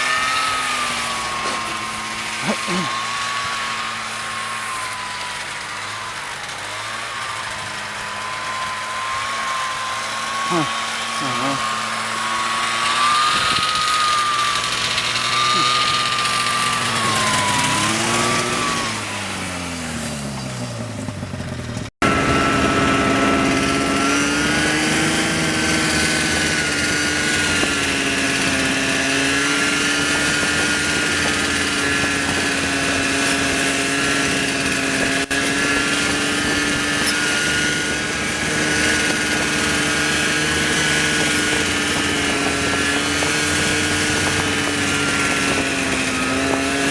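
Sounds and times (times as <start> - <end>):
snowmobile engine running: 0.0 - 46.9.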